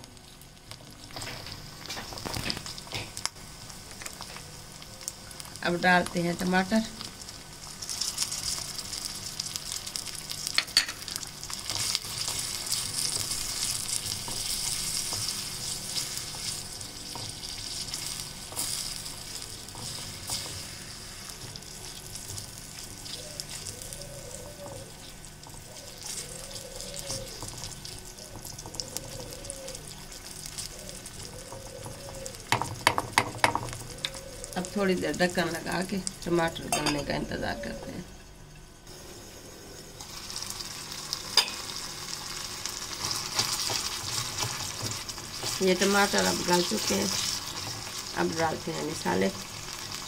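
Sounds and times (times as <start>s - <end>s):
tomatoes sizzling in hot fat: 0.0s - 50.0s.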